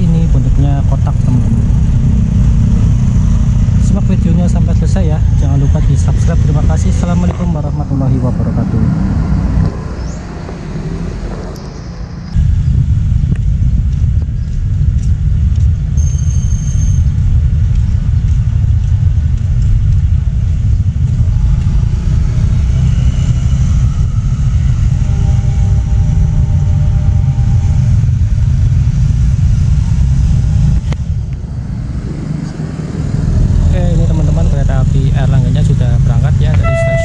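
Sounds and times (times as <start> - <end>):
motorcycles passing: 0.0 - 12.7, 17.0 - 37.0
heavy low rumble: 0.0 - 37.0.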